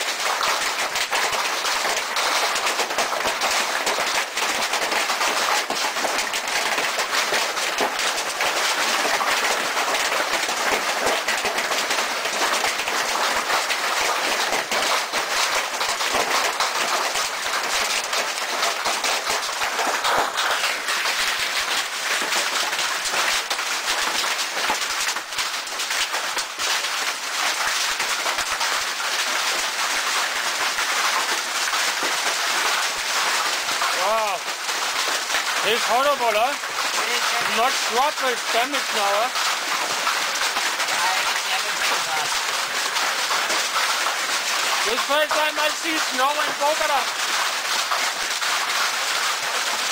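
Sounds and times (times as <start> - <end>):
heavy hail clattering: 0.0 - 49.9.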